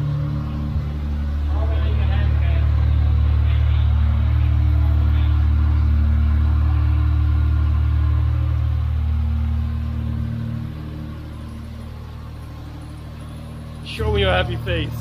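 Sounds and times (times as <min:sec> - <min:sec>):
engine running as low drone: 0:00.0 - 0:15.0.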